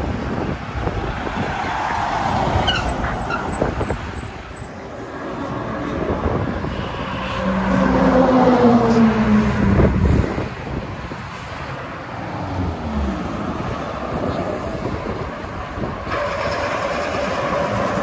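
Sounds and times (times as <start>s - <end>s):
vehicles passing at highway speed: 0.0s - 18.0s
engine drone of passing vehicle: 0.8s - 18.0s.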